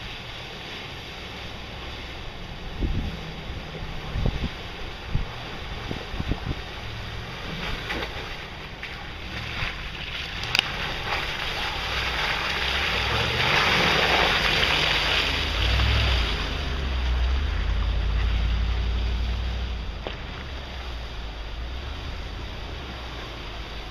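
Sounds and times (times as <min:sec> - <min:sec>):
tyres splashing through muddy water: 0:00.0 - 0:23.9
vehicle engine running: 0:00.0 - 0:23.9.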